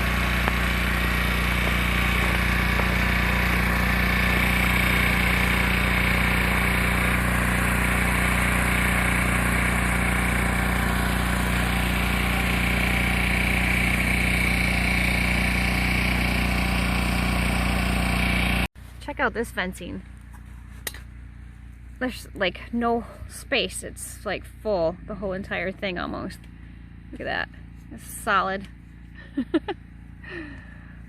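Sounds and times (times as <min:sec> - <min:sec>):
generator engine running: 0:00.0 - 0:31.0.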